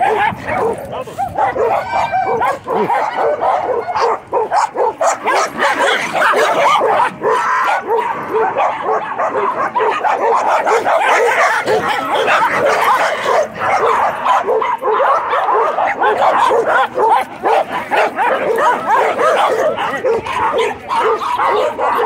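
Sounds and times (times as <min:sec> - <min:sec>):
many dogs barking: 0:00.0 - 0:22.0.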